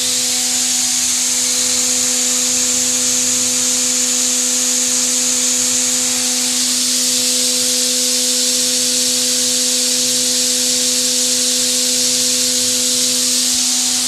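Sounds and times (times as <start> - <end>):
machine spindle humming with hiss: 0.0 - 14.0.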